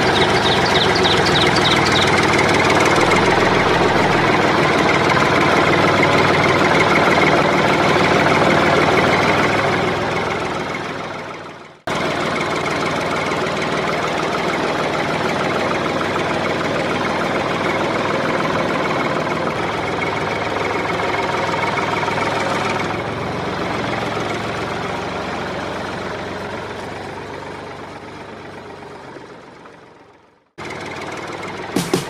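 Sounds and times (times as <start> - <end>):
tractor engine with knocking rattle: 0.0 - 32.0.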